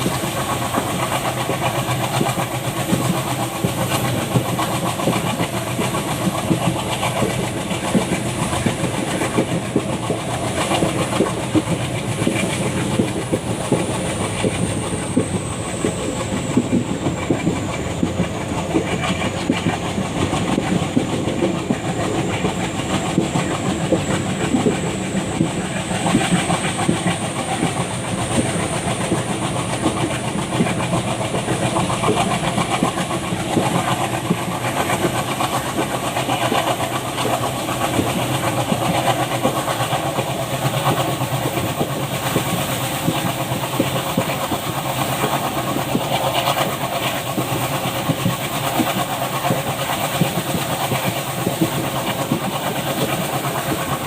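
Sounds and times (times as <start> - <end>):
train wheels clattering over joints: 0.0 - 54.0.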